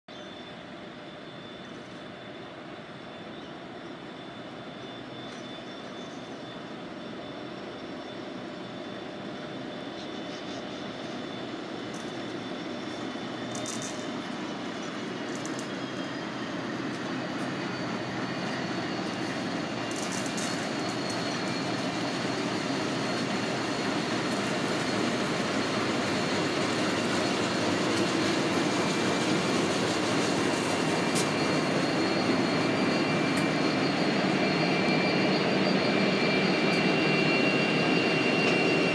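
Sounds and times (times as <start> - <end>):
diesel locomotive engines rumbling: 0.1 - 38.9
steel-on-steel squeal: 0.1 - 38.9.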